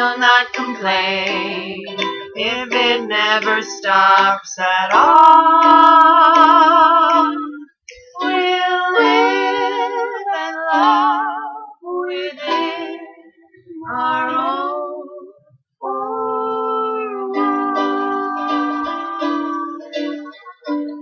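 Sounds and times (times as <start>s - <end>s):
strummed ukulele: 0.0s - 21.0s
two voices singing with vibrato: 0.0s - 21.0s.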